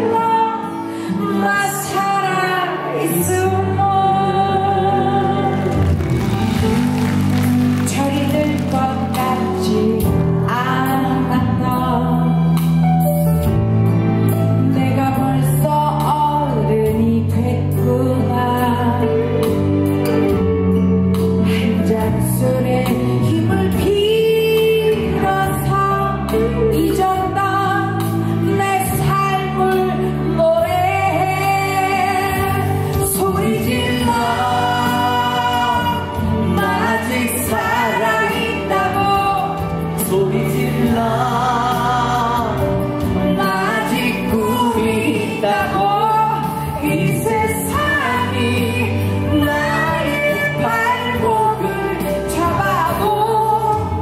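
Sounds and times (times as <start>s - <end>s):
woman singing pop song: 0.0s - 6.0s, 7.8s - 12.9s, 14.5s - 20.5s, 21.1s - 54.0s
instrumental accompaniment: 0.6s - 54.0s.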